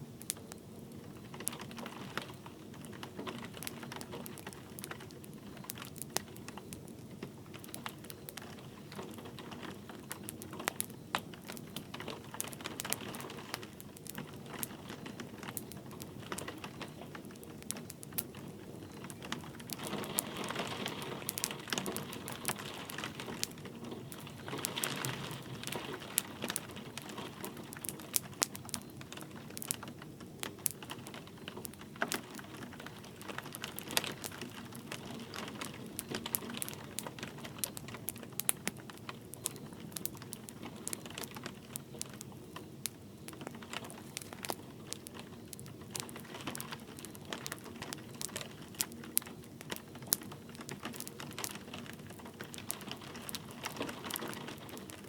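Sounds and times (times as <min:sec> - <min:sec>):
light rain hiss: 0:00.0 - 0:55.0
wood fire crackling and popping: 0:00.0 - 0:55.0.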